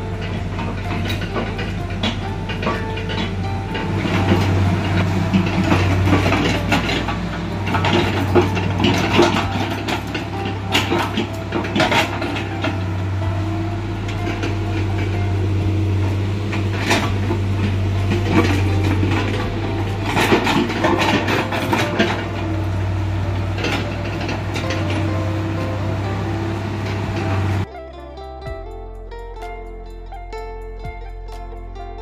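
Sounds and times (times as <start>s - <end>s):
metal clanks: 0.0s - 27.8s
diesel engine running: 0.0s - 32.0s.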